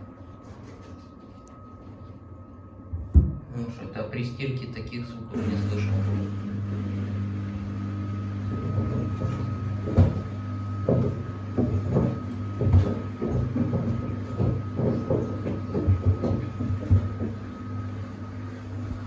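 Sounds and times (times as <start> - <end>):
washing machine motor humming: 3.1 - 19.0.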